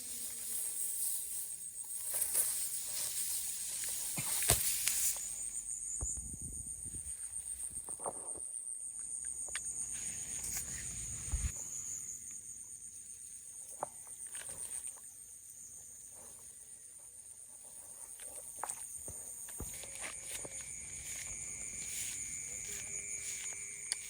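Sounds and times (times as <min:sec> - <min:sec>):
insects shrilling: 0:00.0 - 0:16.9, 0:17.8 - 0:24.0.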